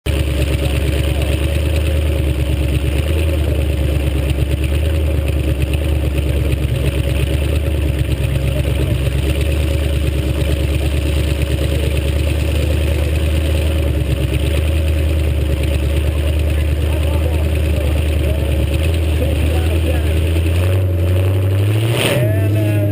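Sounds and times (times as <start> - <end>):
car engine rumbling: 0.0 - 22.9.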